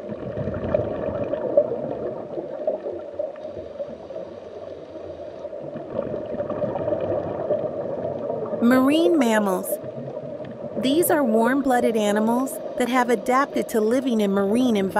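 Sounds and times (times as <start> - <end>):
underwater bubbling and gurgling: 0.0 - 14.9.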